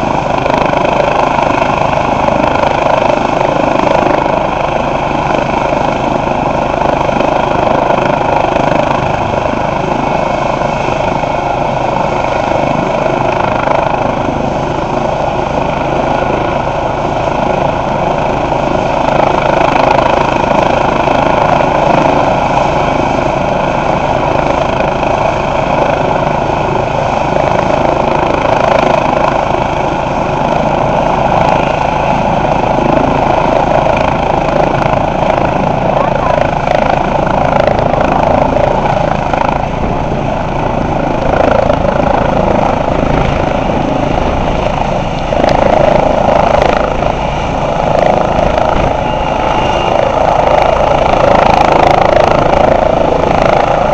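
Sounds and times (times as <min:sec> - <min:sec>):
helicopter turbine and rotor: 0:00.0 - 0:53.9.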